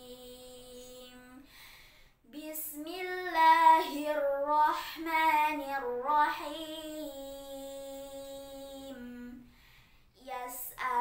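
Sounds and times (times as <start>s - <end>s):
girl chanting recitation: 0.0s - 1.5s, 2.3s - 9.5s, 10.1s - 11.0s.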